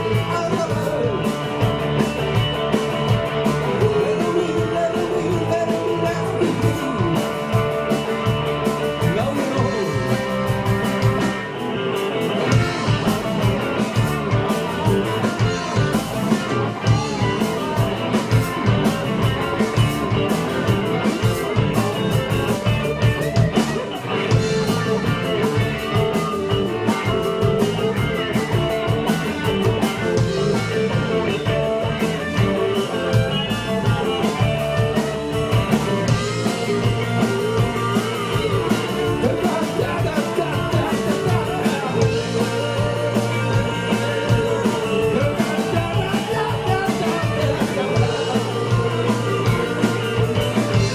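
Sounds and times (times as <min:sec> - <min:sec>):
electric guitar: 0:00.0 - 0:50.9
steady drum beat: 0:00.0 - 0:50.9.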